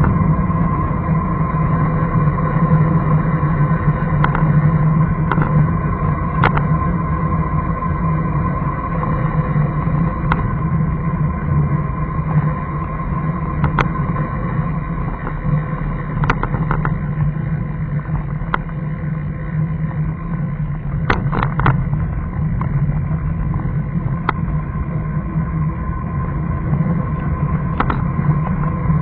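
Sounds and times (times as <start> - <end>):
faint constant whine: 0.0 - 29.0
vehicle driving drone: 0.0 - 29.0.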